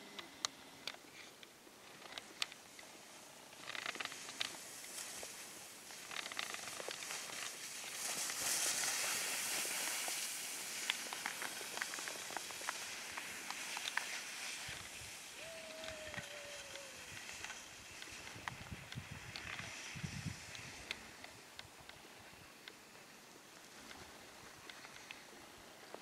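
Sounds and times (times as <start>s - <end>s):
skis scraping over snow: 2.2s - 26.0s.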